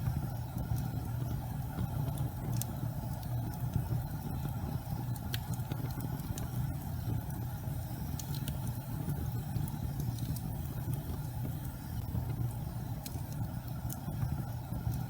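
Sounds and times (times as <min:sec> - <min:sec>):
gas fire flames rumbling: 0:00.0 - 0:15.0.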